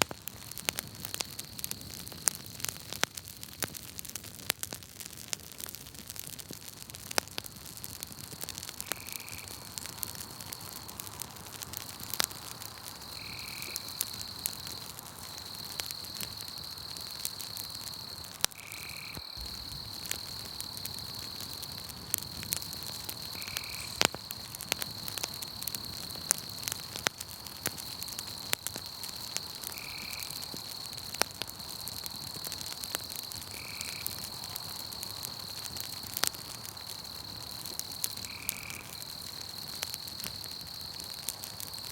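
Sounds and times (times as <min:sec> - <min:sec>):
campfire crackling and popping: 0:00.0 - 0:41.9
night insects trilling: 0:07.4 - 0:41.9.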